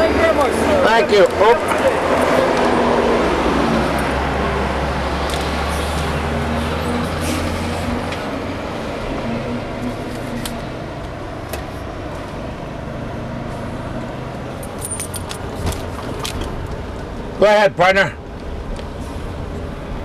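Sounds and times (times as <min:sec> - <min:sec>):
coach engine and road drone: 0:00.0 - 0:20.0.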